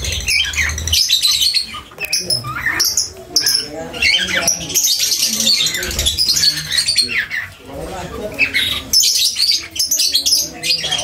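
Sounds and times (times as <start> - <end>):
parrots chattering and squawking: 0.0 - 11.0.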